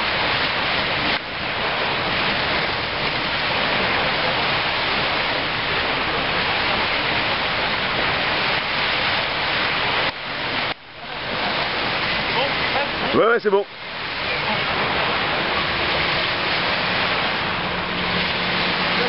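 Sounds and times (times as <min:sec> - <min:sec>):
surf rushing on a beach: 0:00.0 - 0:19.0.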